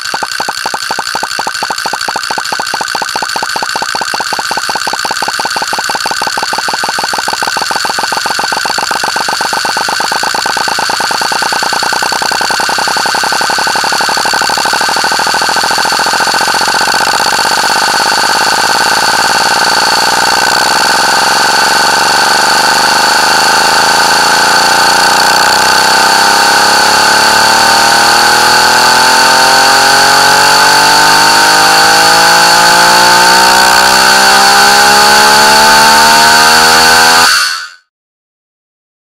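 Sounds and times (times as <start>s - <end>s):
harsh looping buzz: 0.0s - 37.4s.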